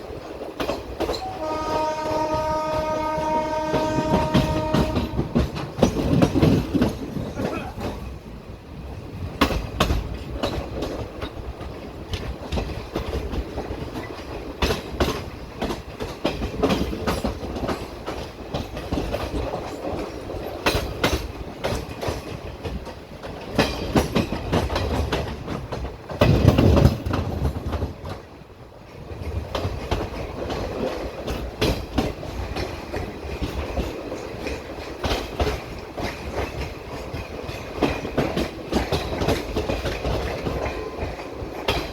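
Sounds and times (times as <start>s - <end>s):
train rumble: 0.0s - 41.9s
train wheels clicking over rail joints: 0.0s - 41.9s.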